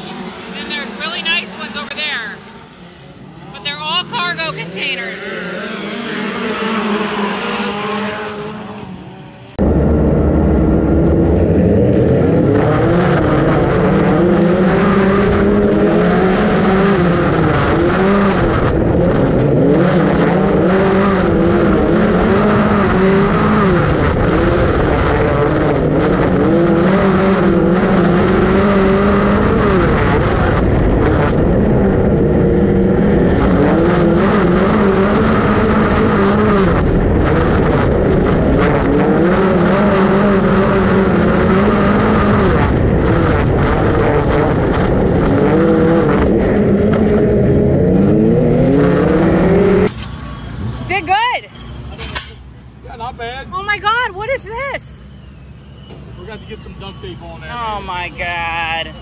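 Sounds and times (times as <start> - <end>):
race car engine running hard: 0.0 - 59.0
race cars going by: 0.0 - 59.0.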